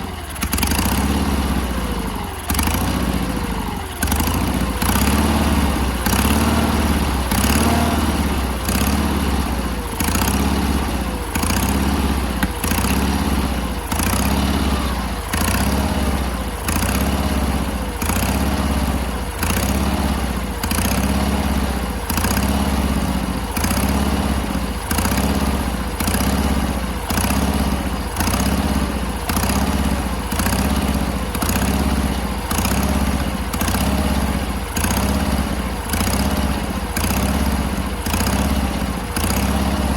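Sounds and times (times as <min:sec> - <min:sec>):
small tractor engine running: 0:00.0 - 0:39.9.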